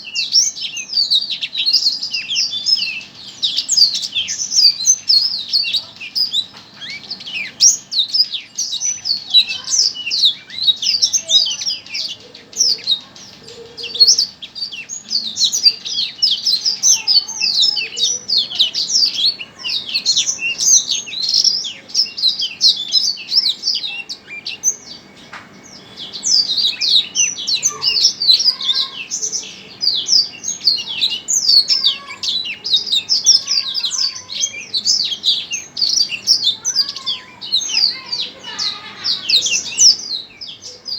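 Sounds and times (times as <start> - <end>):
songbird twittering: 0.0 - 40.9.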